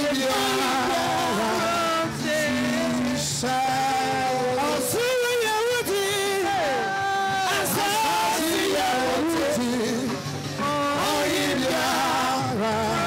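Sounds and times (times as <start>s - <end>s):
man singing gospel song: 0.0s - 13.0s
sustained instrumental accompaniment: 0.0s - 13.0s.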